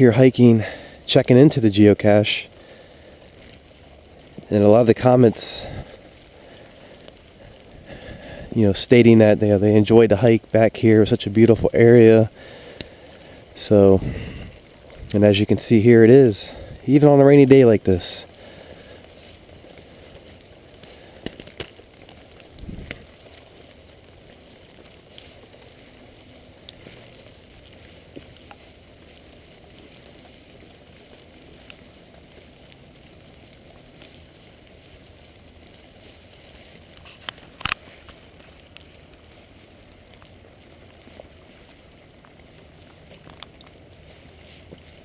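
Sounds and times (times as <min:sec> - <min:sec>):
light rain hissing: 0:00.0 - 0:45.0
raindrops ticking: 0:00.0 - 0:45.0.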